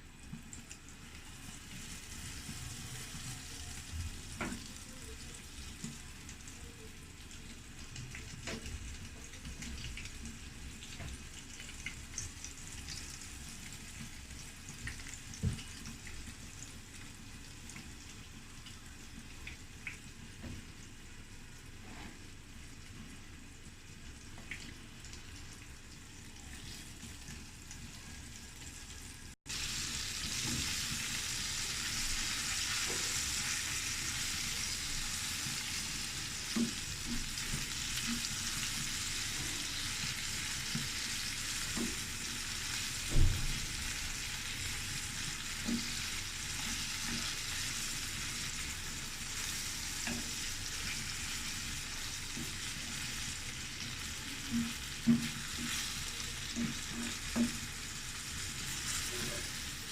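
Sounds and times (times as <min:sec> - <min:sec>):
prawns sizzling in hot oil: 0:00.2 - 0:59.9.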